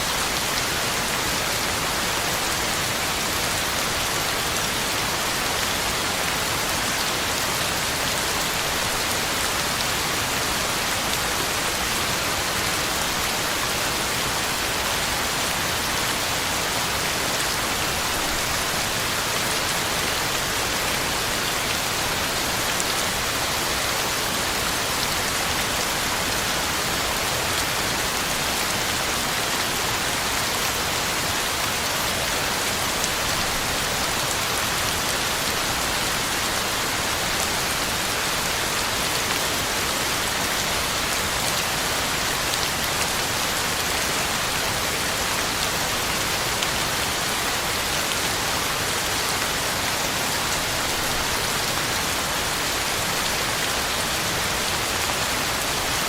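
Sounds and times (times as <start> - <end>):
heavy rain pattering on leaves: 0.0 - 56.0.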